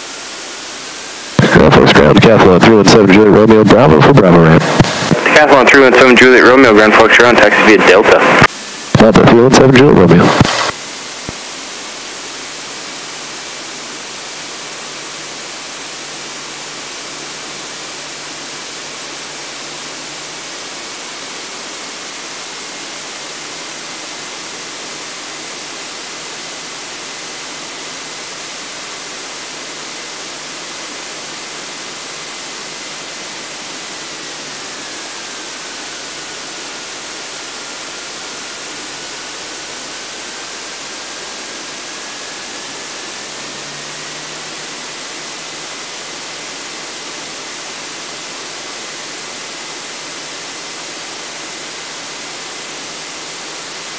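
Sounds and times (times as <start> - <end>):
faint high whine: 0.0 - 53.9
intercom audio hiss: 0.0 - 53.9.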